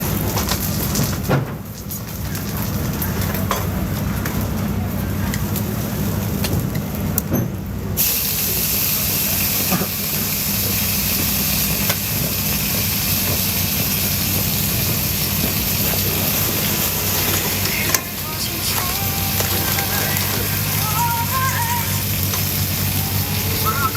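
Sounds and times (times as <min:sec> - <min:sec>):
loud cooking hiss: 0:00.0 - 0:07.1, 0:07.8 - 0:23.9.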